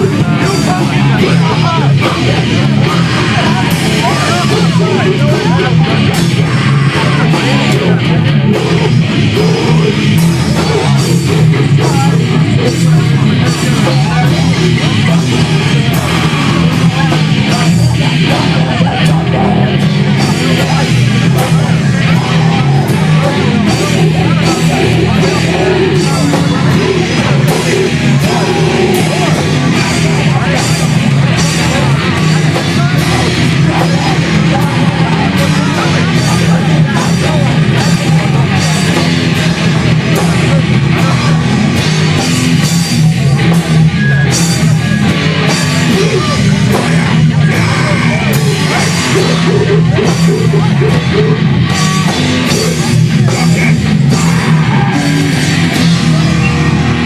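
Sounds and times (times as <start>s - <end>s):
bass guitar: 0.0s - 57.0s
distorted electric guitars: 0.0s - 57.0s
fast drums: 0.0s - 57.0s
shouted vocals: 0.0s - 57.0s.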